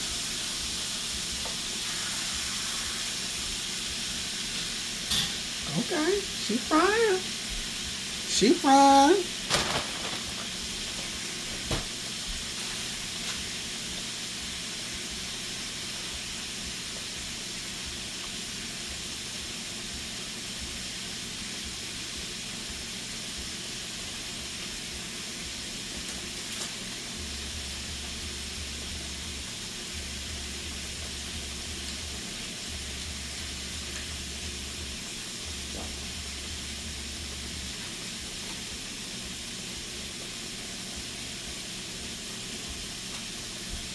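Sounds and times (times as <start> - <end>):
food sizzling in hot oil: 0.0 - 43.9.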